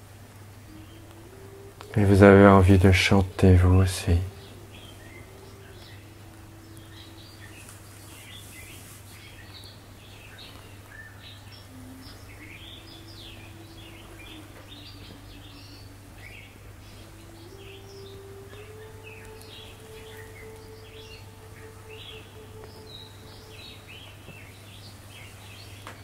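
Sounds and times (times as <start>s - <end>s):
songbirds chirping and trilling: 0.0s - 26.0s
steady low hum: 0.0s - 26.0s.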